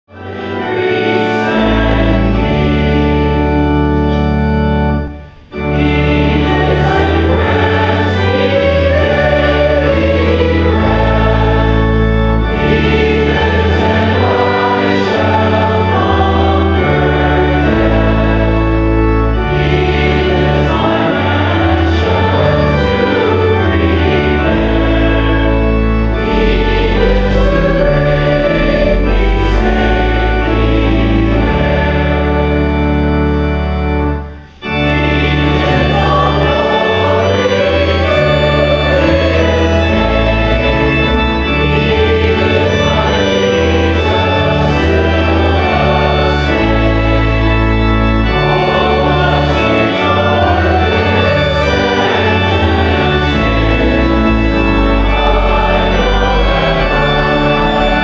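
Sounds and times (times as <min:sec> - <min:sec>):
pipe organ: 0:00.0 - 0:58.0
congregation singing a hymn: 0:00.1 - 0:58.0.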